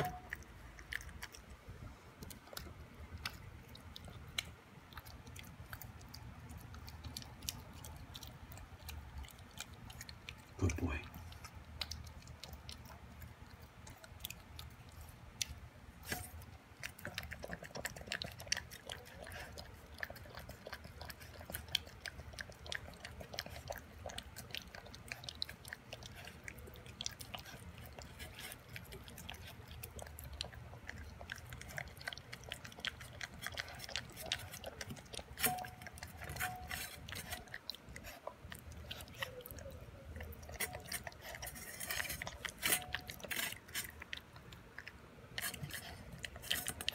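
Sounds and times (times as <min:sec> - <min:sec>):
puppy chewing wetly: 0:00.0 - 0:46.9.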